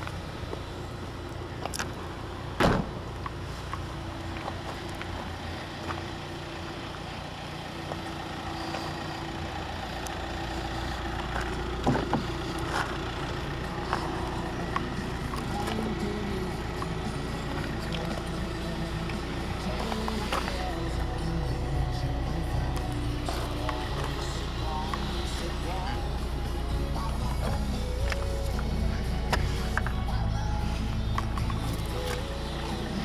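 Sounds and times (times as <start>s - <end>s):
car humming: 0.0s - 33.0s.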